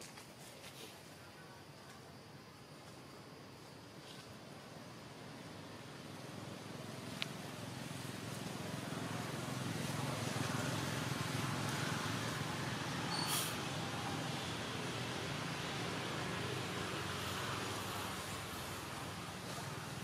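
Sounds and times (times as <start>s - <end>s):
low rumbling background noise: 0.1s - 20.0s.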